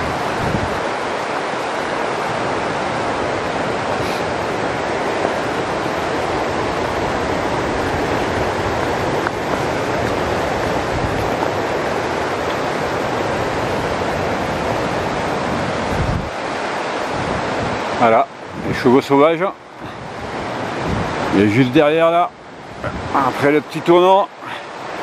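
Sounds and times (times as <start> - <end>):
wind buffeting microphone: 0.0 - 23.5
stream rushing over rocks: 0.0 - 25.0.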